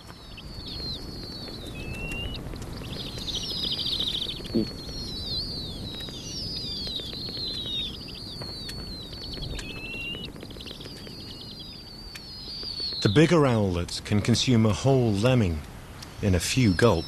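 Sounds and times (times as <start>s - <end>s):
owl chicks begging calls: 0.0s - 17.0s.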